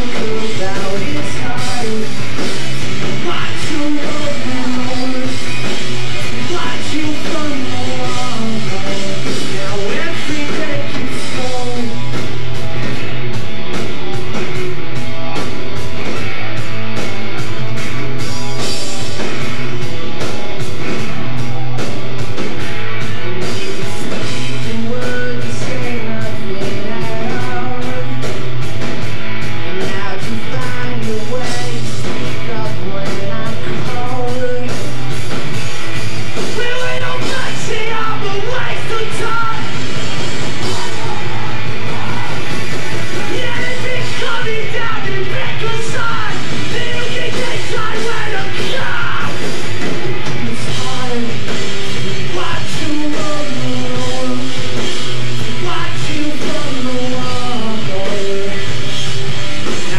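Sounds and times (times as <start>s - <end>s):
man singing and yelling: 0.0s - 12.3s, 22.9s - 35.2s, 36.4s - 59.9s
live pop punk band: 0.0s - 59.9s.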